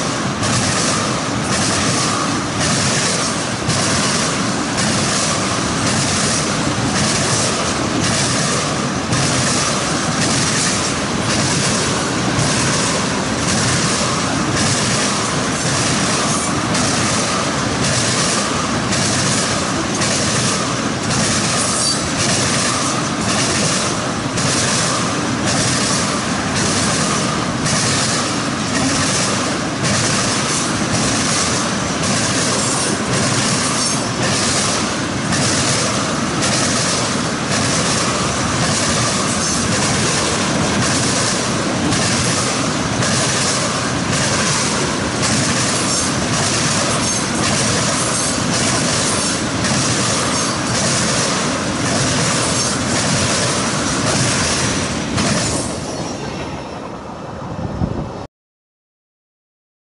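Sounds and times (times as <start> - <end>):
train wheels clacking on track: 0.0 - 57.0.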